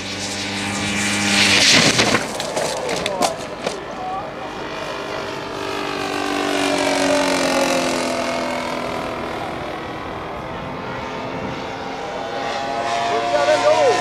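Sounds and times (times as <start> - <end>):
model airplane engine flying past: 0.0 - 14.0.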